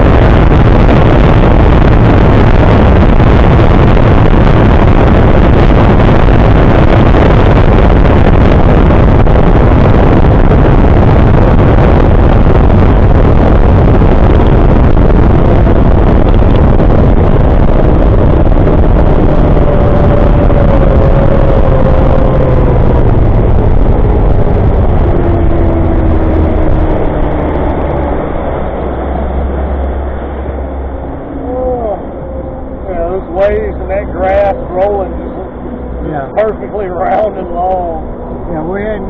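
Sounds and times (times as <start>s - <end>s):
outboard engine: 0.0s - 39.0s
wind and water rush: 0.0s - 39.0s.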